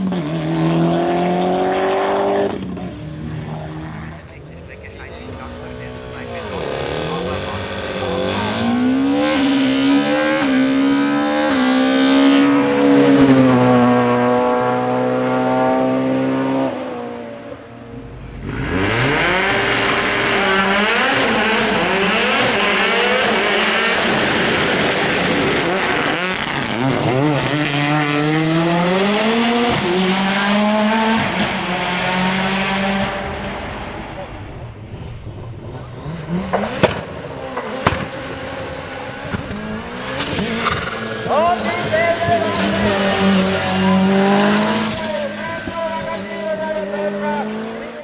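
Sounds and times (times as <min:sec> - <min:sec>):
racing car engines revving: 0:00.0 - 0:48.0.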